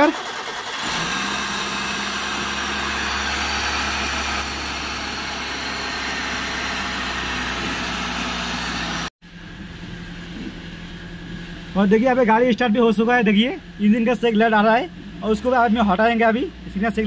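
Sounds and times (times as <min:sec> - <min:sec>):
car engine running: 0:00.6 - 0:17.0.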